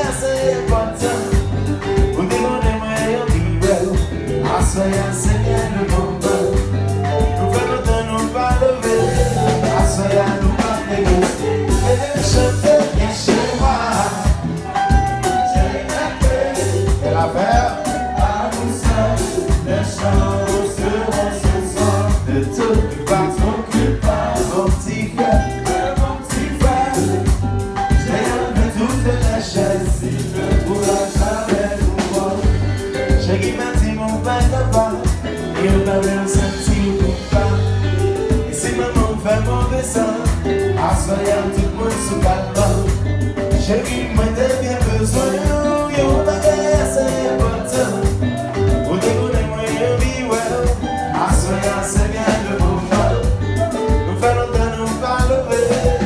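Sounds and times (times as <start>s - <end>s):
live band playing: 0.0s - 56.0s
man singing into a microphone: 0.0s - 56.0s.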